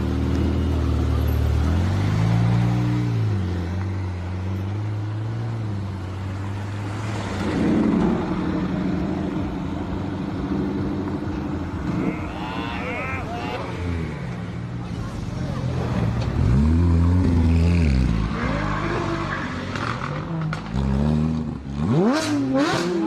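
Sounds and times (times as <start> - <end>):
car engine idling and revving: 0.0 - 23.0
engine and exhaust roar: 0.0 - 23.0.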